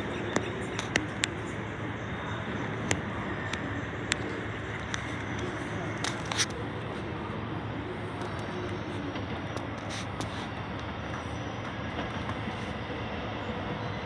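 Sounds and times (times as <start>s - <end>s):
train wheels on track: 0.0s - 14.0s.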